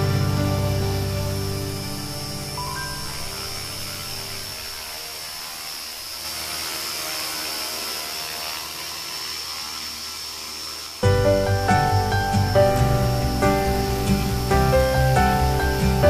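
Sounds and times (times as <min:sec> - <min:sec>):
model helicopter whine: 0:00.0 - 0:16.0.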